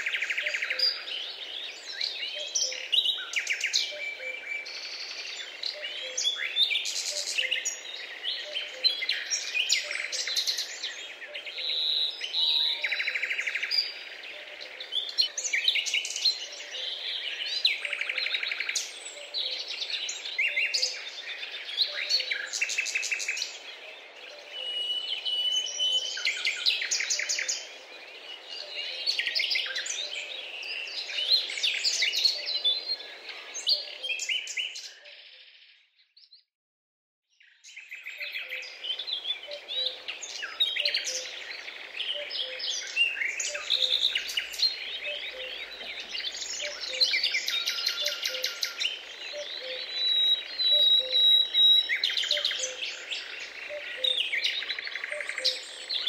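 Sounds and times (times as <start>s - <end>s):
birds chirping and trilling: 0.0s - 36.4s, 37.3s - 56.0s.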